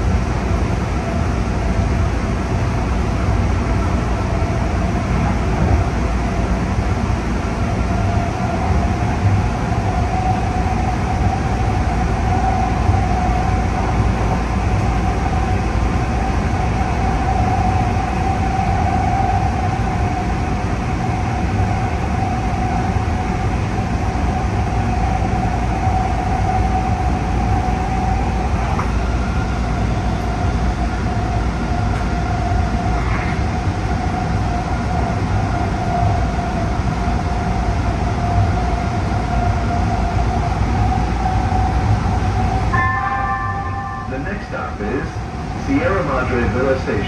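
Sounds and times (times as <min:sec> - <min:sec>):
train wheels rumbling on rails: 0:00.0 - 0:47.0
train whine: 0:00.0 - 0:47.0.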